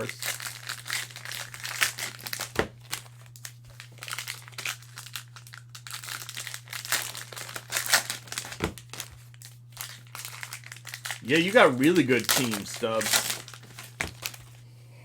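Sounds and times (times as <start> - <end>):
cellophane wrapper crinkling: 0.0 - 14.6.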